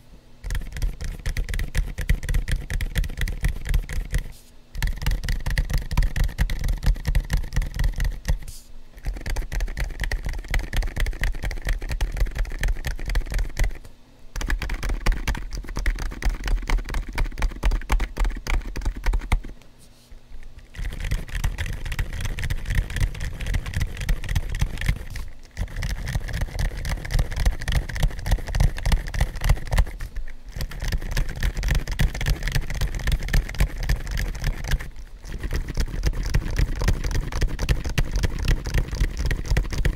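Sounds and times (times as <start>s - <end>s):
fast typing on quiet keyboard: 0.4s - 19.5s, 20.5s - 39.9s.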